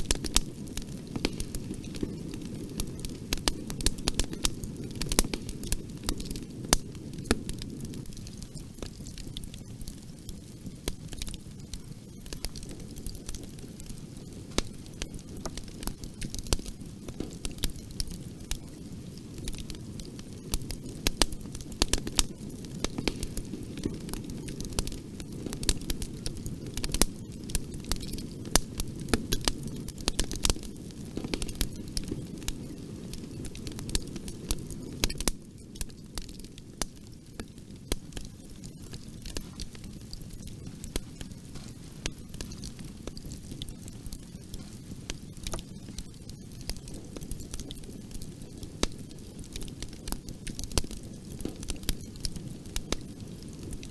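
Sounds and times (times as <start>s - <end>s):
fire crackling in a fireplace: 0.0s - 53.9s.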